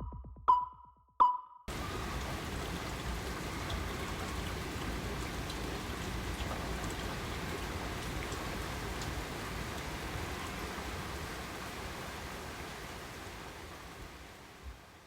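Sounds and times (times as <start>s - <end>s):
rain hissing: 1.7s - 15.0s.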